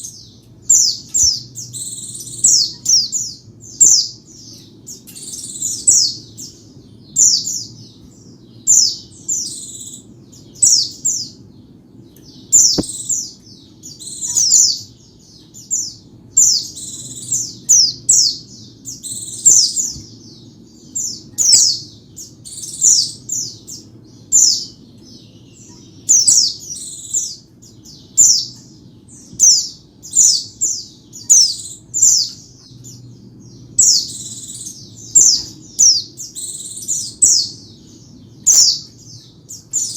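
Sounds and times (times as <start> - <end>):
bird chirping: 0.0 - 39.9
faint low hum: 0.0 - 39.9.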